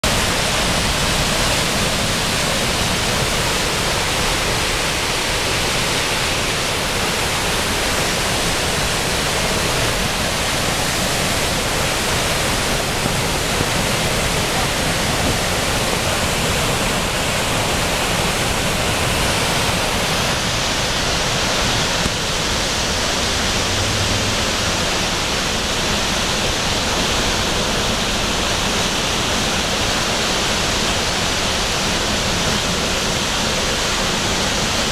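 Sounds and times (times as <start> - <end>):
brook water rushing: 0.0 - 34.9.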